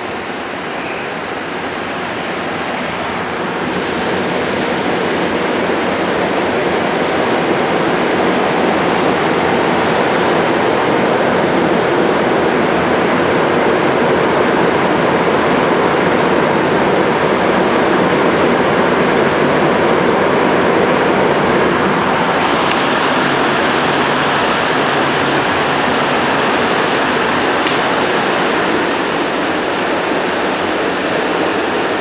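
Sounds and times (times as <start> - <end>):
train accelerating in tunnel: 0.0 - 32.0.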